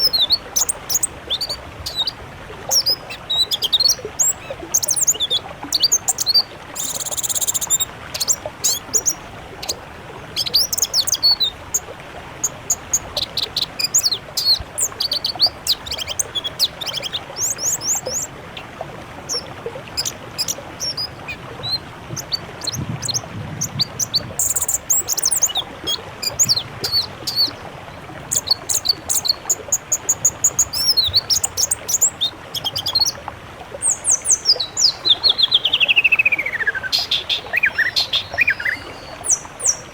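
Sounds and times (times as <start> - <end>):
songbirds chirping and trilling: 0.0 - 27.6, 28.2 - 33.2, 33.8 - 39.9.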